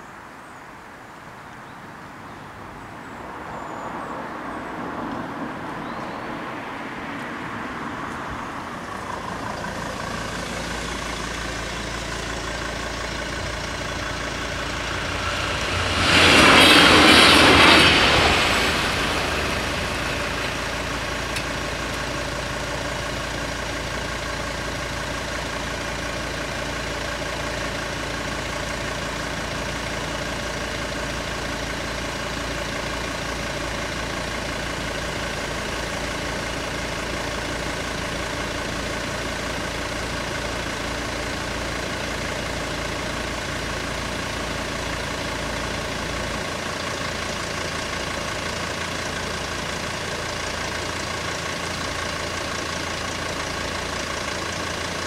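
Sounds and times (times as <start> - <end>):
engine hum: 2.2 - 55.0
diesel railcar passing: 3.2 - 55.0.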